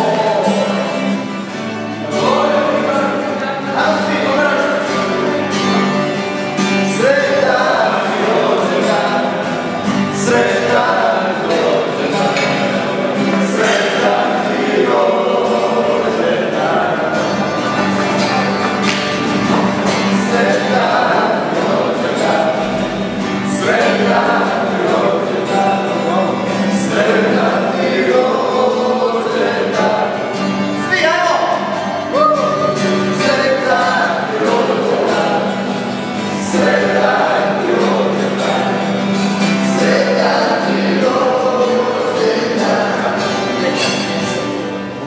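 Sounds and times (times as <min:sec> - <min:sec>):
group singing: 0:00.0 - 0:45.0
strummed acoustic guitar: 0:00.0 - 0:45.0.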